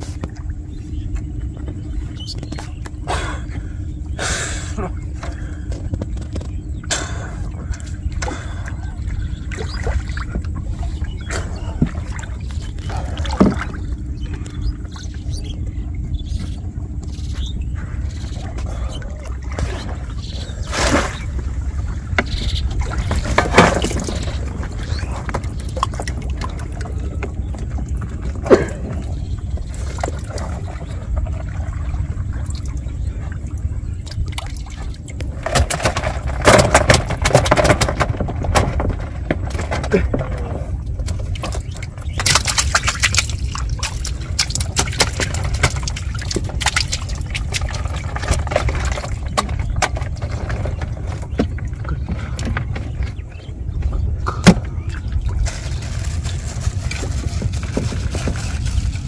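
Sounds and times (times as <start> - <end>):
steady low rumble: 0.0 - 59.0
water splashing and trickling: 4.8 - 59.0.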